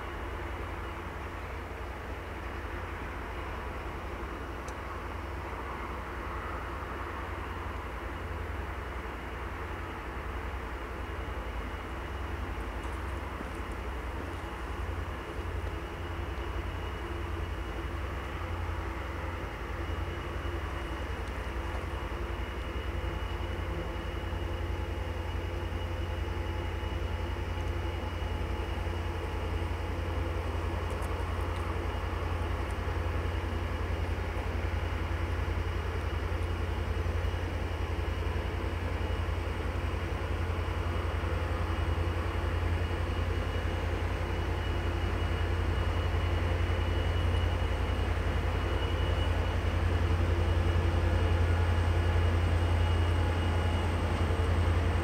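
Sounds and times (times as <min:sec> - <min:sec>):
diesel train engines droning: 0:00.0 - 0:55.0.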